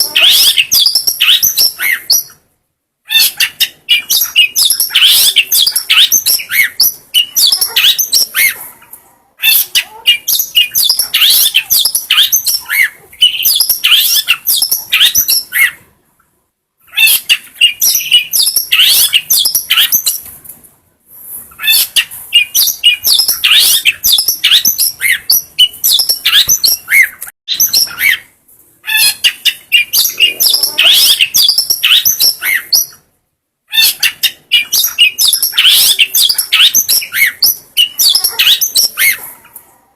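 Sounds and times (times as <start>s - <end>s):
bird chattering song: 0.0s - 2.4s, 3.1s - 8.6s, 9.4s - 15.8s, 16.8s - 20.3s, 21.5s - 33.1s, 33.7s - 39.4s.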